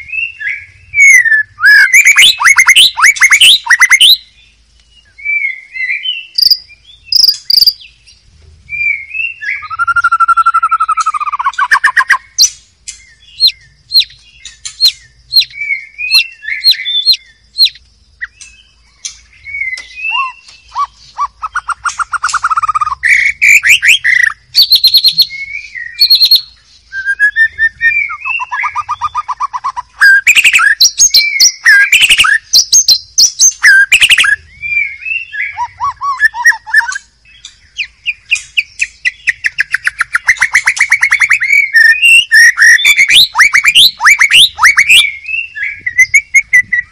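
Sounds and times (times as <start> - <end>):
songbird singing varied song: 0.0 - 46.9.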